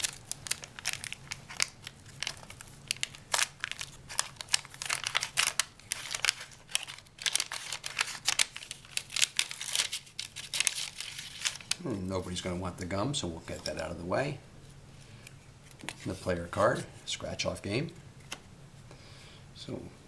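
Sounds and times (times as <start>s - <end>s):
wax paper wrapper crinkling: 0.0s - 13.9s, 14.7s - 17.6s.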